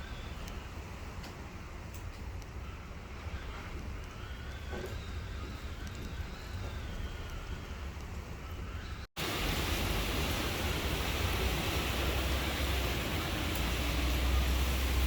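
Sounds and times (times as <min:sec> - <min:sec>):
storm wind and rain: 0:00.0 - 0:15.0.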